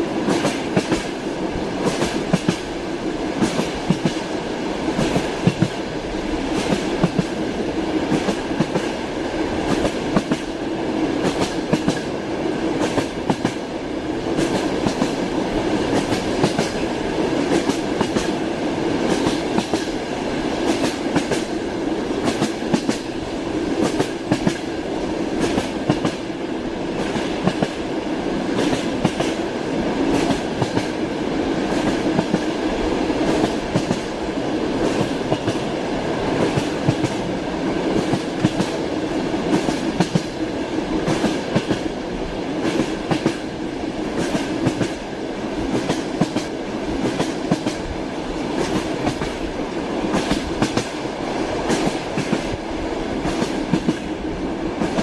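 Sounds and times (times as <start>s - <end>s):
train wheels clattering over rails: 0.2s - 27.9s, 28.5s - 55.0s.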